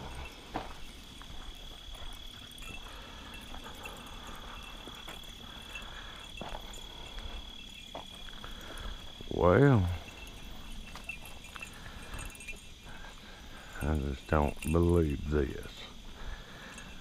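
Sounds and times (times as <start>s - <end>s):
night insects chorus: 0.0s - 17.0s.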